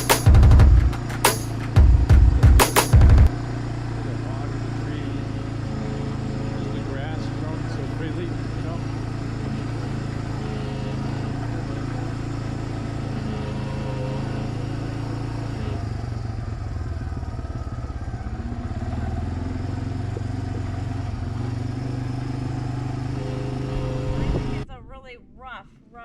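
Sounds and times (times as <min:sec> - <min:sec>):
atv engine running: 0:00.0 - 0:25.6.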